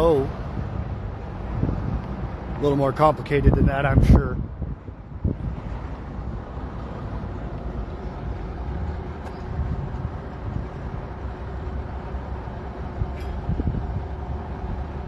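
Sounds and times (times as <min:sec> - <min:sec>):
heavy equipment engines rumbling: 0:00.0 - 0:15.0.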